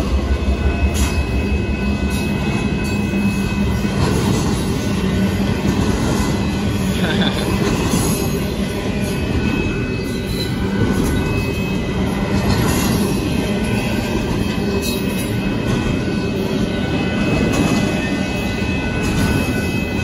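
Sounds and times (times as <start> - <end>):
freight train rumbling: 0.0 - 20.0.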